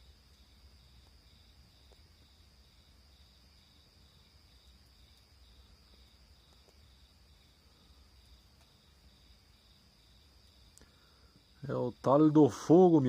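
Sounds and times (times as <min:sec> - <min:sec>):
campfire crackles: 0:00.0 - 0:13.0
cricket steady trill: 0:00.0 - 0:13.0
insect chirping: 0:00.0 - 0:13.0.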